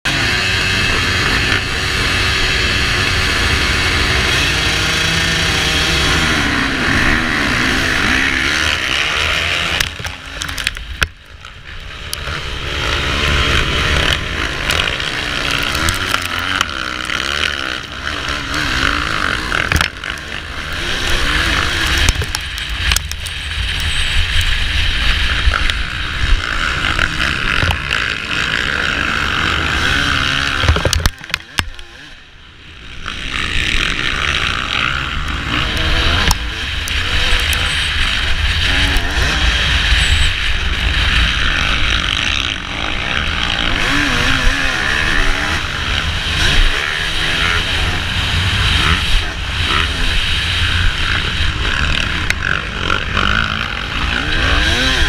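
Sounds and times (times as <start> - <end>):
dirt bike engine revving through gears: 0.1 - 55.0
motocross bikes revving: 0.1 - 55.0.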